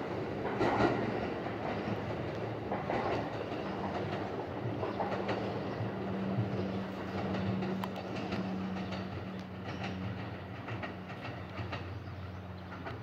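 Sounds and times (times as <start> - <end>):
electric train running: 0.0 - 13.0
wheels clicking over rail joints: 0.0 - 13.0.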